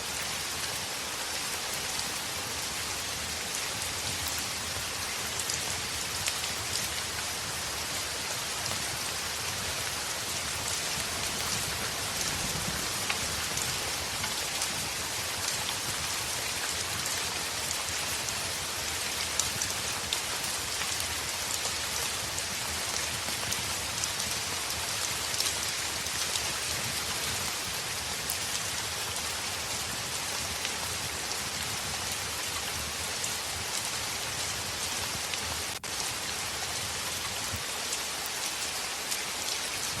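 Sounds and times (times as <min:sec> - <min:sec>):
heavy rain on a window: 0:00.0 - 0:40.0.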